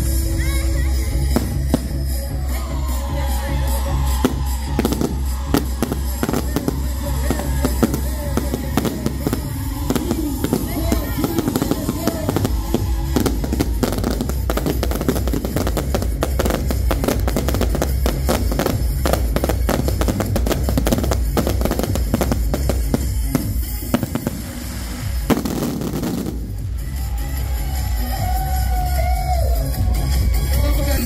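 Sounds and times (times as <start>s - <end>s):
background music with bass: 0.0s - 31.0s
fireworks crackling and banging: 1.2s - 27.8s.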